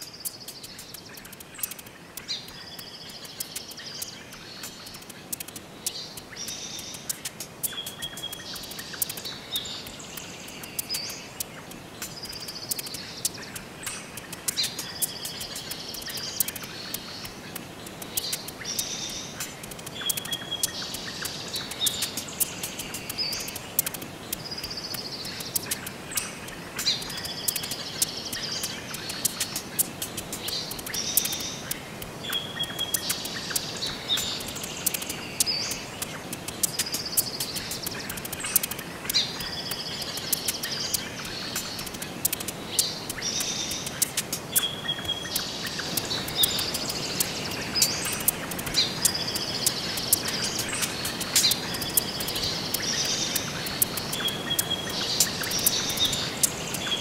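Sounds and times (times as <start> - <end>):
sharp ticks: 0.0 - 57.0
steady hiss: 0.0 - 57.0.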